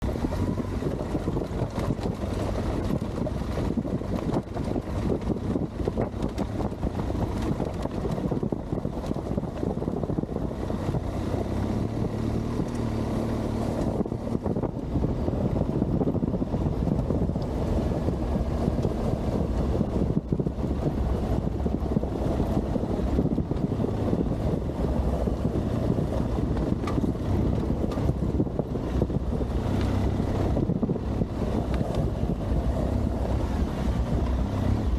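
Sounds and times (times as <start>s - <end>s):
motorcycle engine running: 0.0s - 34.9s
tyres over loose gravel: 0.0s - 34.9s
wind buffeting microphone: 0.0s - 34.9s.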